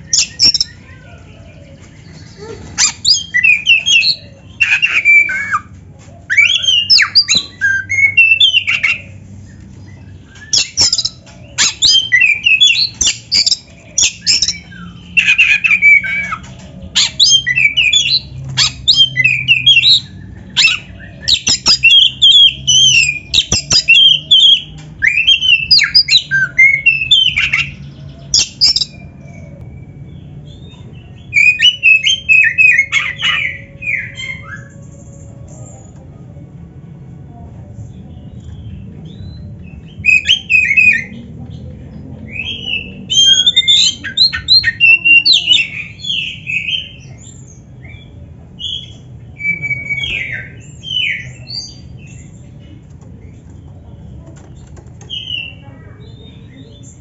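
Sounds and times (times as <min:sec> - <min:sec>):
magpie-robin singing: 0:00.0 - 0:36.0, 0:37.8 - 0:57.0.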